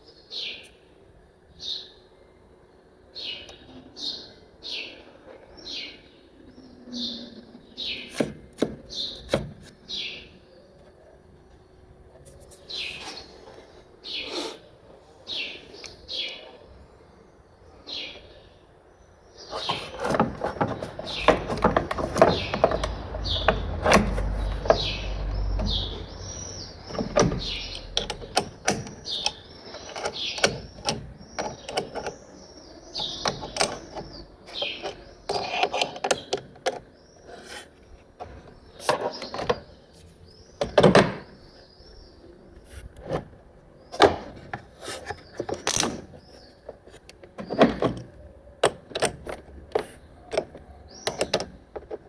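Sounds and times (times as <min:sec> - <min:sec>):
small birds chirping: 0:00.0 - 0:49.0, 0:49.7 - 0:52.0.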